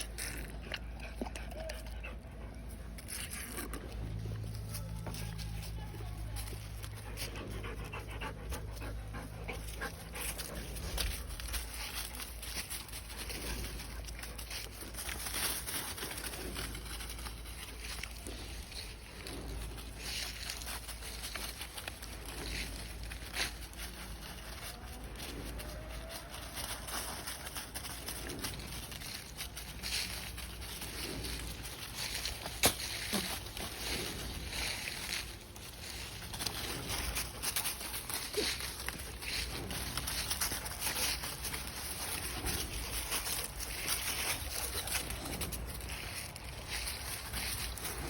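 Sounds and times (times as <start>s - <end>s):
rustles: 0.0s - 48.0s.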